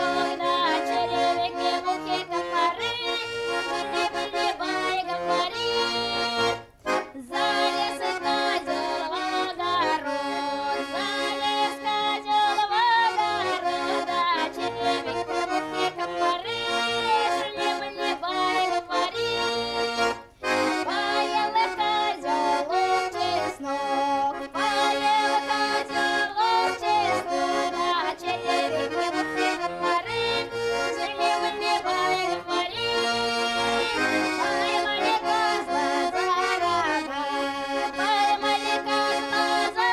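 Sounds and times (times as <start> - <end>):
accordion folk tune: 0.0 - 39.9.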